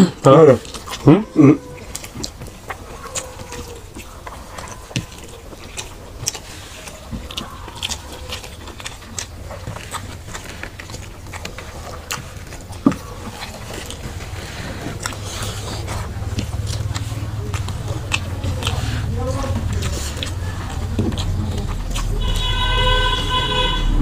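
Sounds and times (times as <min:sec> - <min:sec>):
low steady hum: 0:00.0 - 0:24.0
wet chewing and finger smacks: 0:00.6 - 0:22.6.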